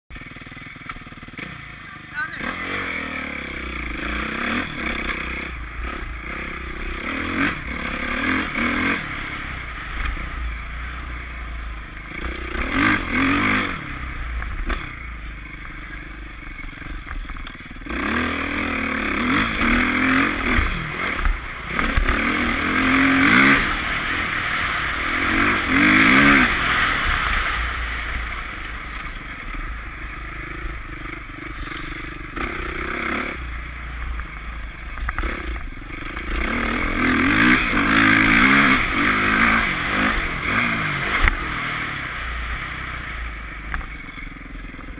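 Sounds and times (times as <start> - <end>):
dirt bike engine revving: 0.1 - 44.9.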